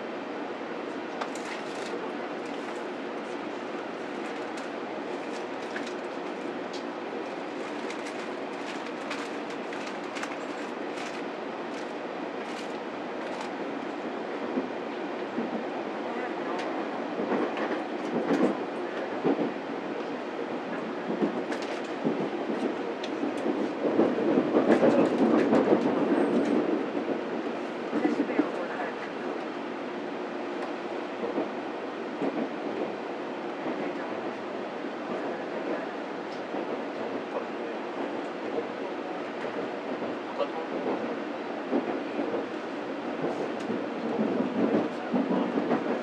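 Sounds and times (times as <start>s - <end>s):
train cabin rolling rumble: 0.0s - 46.0s.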